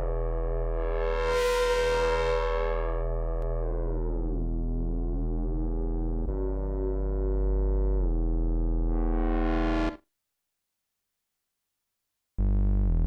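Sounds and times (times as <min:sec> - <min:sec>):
synthesizer bass note: 0:00.0 - 0:10.0, 0:12.4 - 0:13.0.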